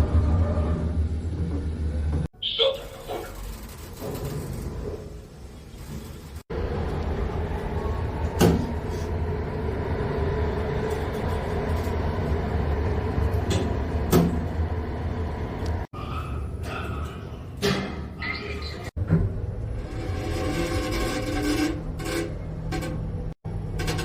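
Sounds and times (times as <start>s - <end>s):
elevator rumble and hum: 0.0s - 24.0s.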